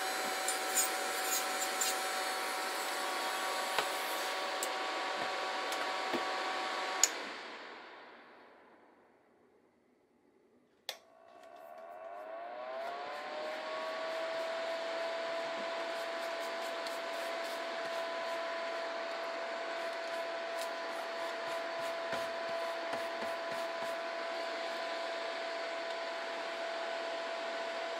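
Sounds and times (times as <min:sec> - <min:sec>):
dust collector fan whirring: 0:00.0 - 0:07.8, 0:11.1 - 0:27.9.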